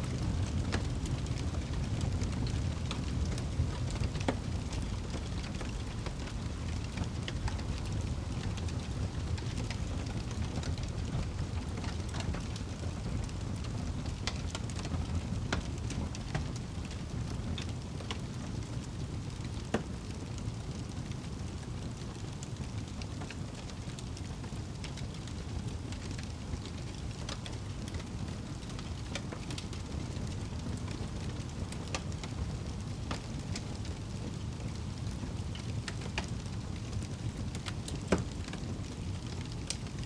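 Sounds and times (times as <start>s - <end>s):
fire crackling and popping: 0.0s - 40.0s.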